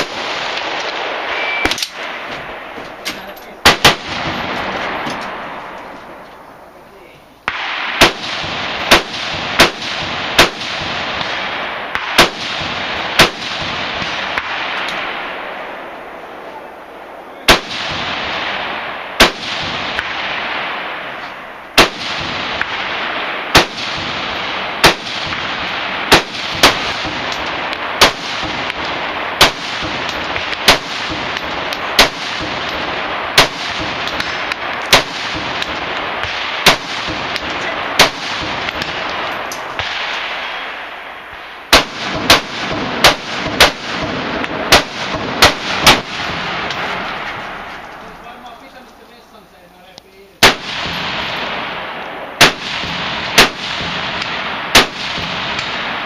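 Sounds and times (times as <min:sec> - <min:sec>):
rifle shots: 0:00.0 - 0:06.2, 0:07.4 - 0:16.5, 0:17.4 - 0:48.8, 0:50.4 - 0:56.0.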